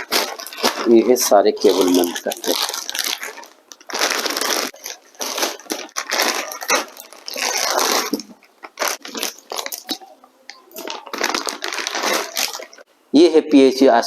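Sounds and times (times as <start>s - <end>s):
plastic packaging crinkling: 0.0s - 12.9s.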